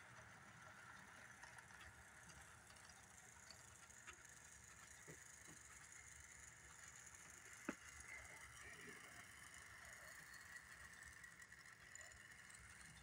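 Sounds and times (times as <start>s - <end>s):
model train running: 0.0s - 13.0s.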